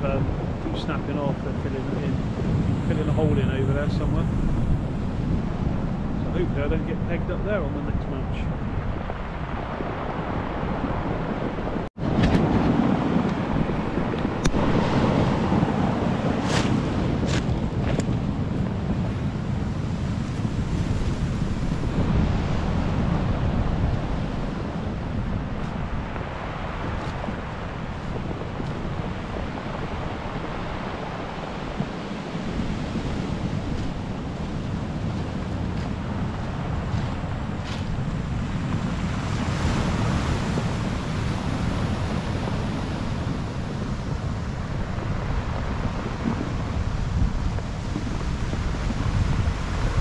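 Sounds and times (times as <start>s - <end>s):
surf on pebble beach: 0.0s - 50.0s
wind buffeting microphone: 0.0s - 50.0s.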